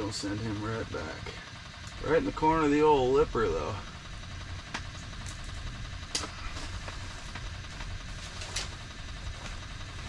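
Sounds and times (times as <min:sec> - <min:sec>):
low rumble: 0:01.4 - 0:10.0.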